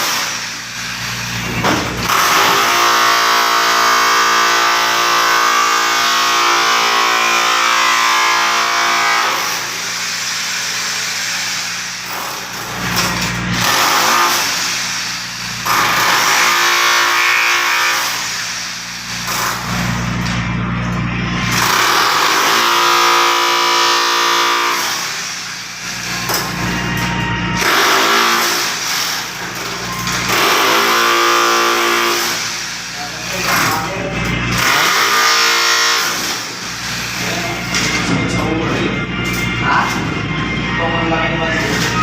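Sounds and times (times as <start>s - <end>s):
motor running loudly: 0.0s - 42.0s.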